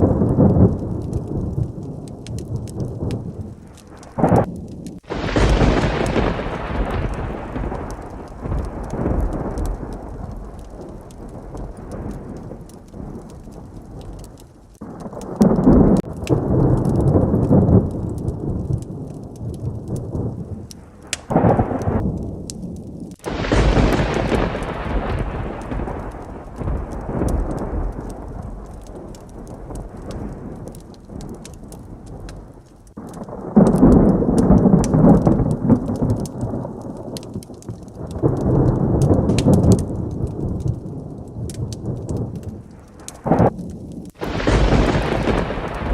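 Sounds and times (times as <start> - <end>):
heavy rain: 0.0 - 45.9
thunder rolling: 0.0 - 45.9.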